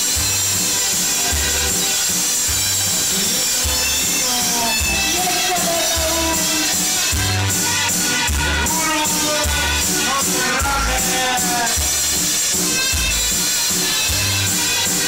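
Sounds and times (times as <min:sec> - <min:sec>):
latin music: 0:00.0 - 0:15.0
shaker percussion: 0:00.0 - 0:15.0
deep bass notes: 0:02.5 - 0:14.6.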